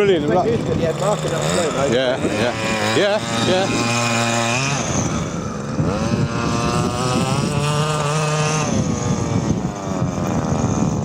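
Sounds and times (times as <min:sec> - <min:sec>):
model aircraft motor flying past: 0:00.0 - 0:11.0.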